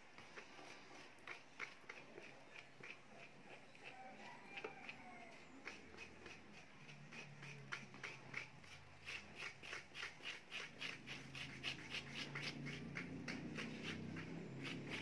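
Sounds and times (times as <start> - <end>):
spoon scraping banana peel: 0.0 - 15.0.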